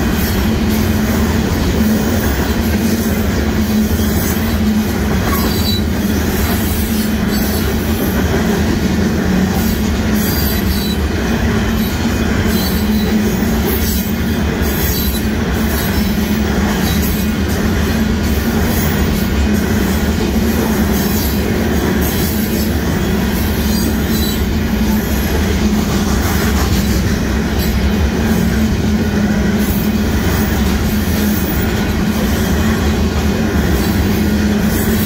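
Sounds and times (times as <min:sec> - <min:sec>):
steel wheels rolling on rails: 0:00.0 - 0:35.0.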